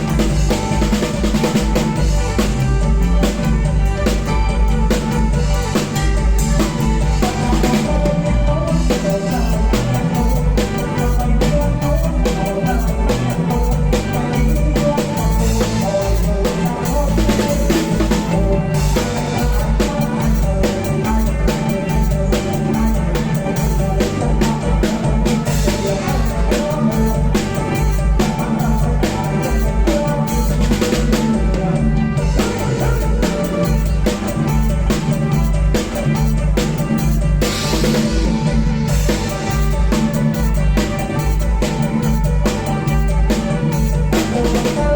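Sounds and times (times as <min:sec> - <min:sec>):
deep bass drum beat: 0:00.0 - 0:44.9
live band music: 0:00.0 - 0:44.9.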